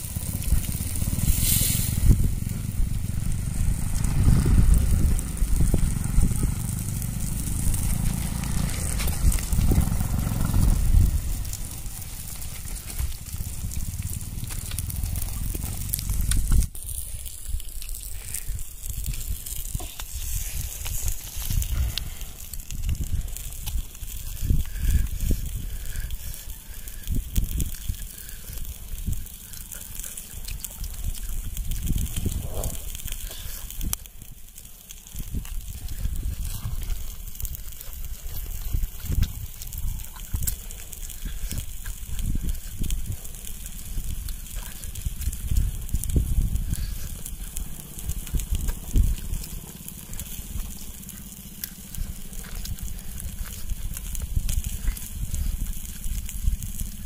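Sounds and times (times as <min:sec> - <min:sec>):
faint crackles and clicks: 0:00.0 - 0:57.0
wind buffeting microphone: 0:00.0 - 0:57.0.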